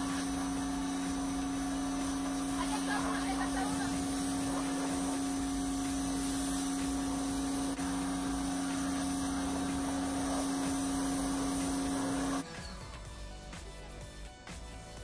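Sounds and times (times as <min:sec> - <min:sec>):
water jet hissing: 0:00.0 - 0:12.7
pressure washer motor hum: 0:00.0 - 0:13.7.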